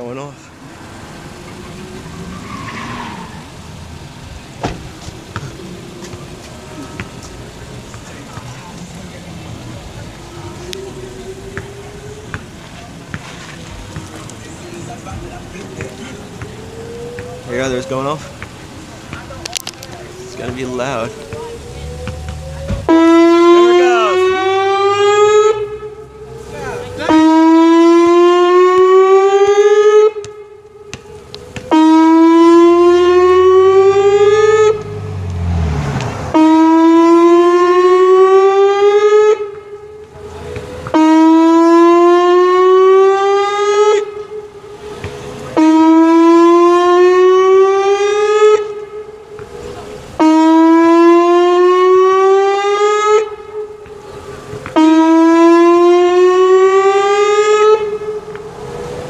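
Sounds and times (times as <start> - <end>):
rising and falling warning siren: 0.0 - 59.0.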